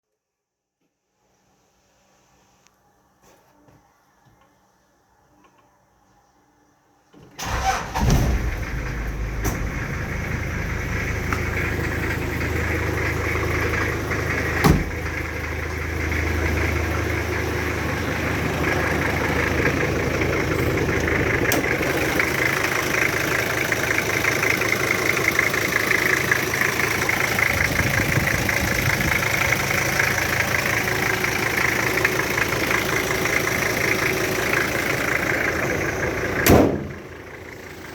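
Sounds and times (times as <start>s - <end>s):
diesel engine starting and idling: 7.3s - 37.9s.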